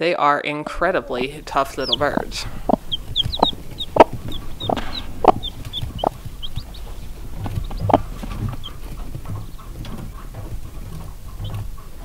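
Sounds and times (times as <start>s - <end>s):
chicks peeping: 0.7s - 12.0s
hen clucking: 0.7s - 12.0s.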